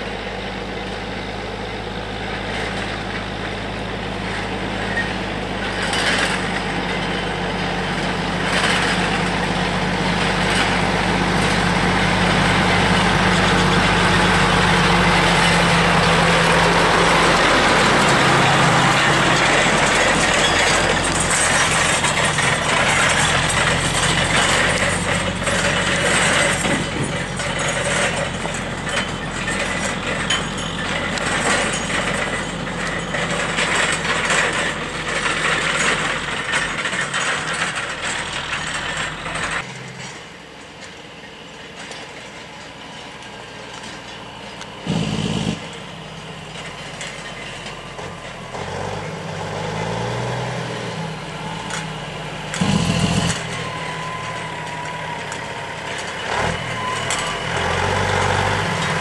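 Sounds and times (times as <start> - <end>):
truck engine rattling: 0.0 - 59.0.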